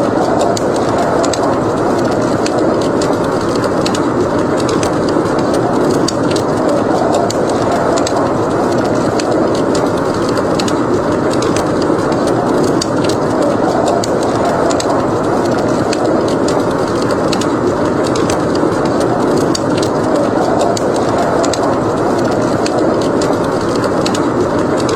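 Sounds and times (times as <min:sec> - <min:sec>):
fire crackling and popping: 0:00.0 - 0:24.9
steady rushing noise: 0:00.0 - 0:24.9.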